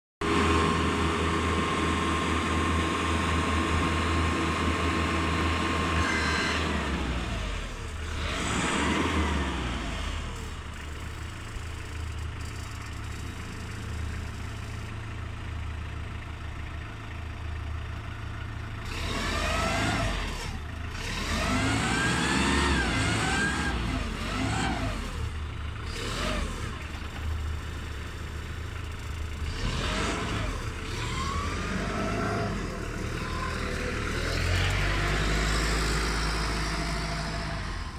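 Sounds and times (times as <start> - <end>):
engine whine: 0.2 - 15.0, 17.3 - 37.9
forklift diesel engine revving: 0.2 - 37.9.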